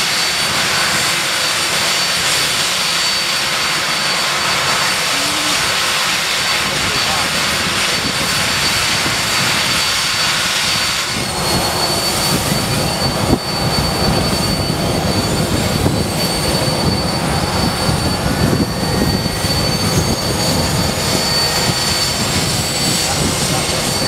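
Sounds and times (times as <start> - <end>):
jet engines whining: 0.0 - 24.0.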